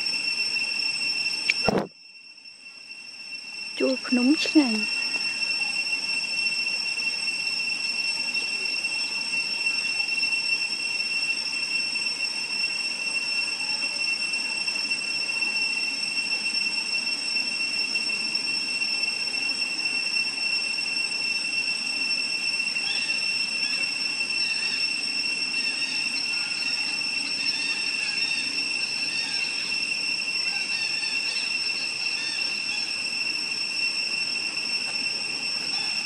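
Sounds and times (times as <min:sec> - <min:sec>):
high-pitched insect drone: 0:00.0 - 0:36.0.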